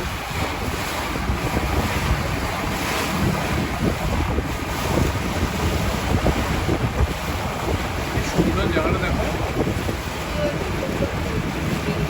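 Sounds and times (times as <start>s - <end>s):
sea water rushing past boat: 0.0s - 12.0s
wind buffeting microphone: 0.0s - 12.0s.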